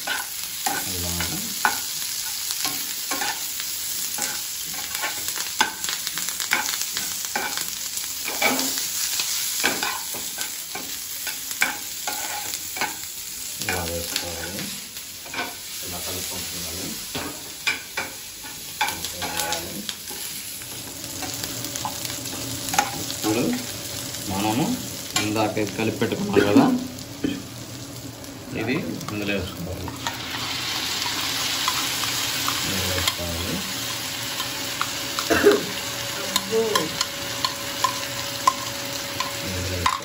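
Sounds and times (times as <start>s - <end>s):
vegetables sizzling in oil: 0.0s - 40.0s.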